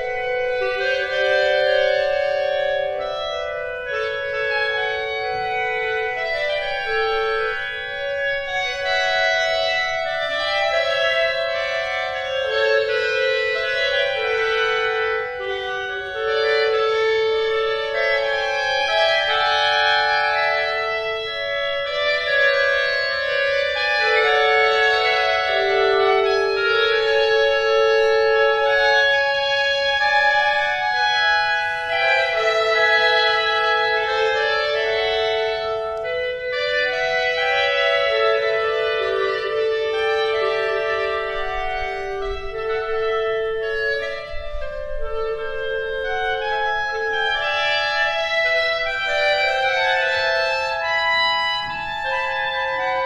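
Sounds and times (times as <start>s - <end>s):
clarinet ensemble long notes: 0.0s - 53.0s.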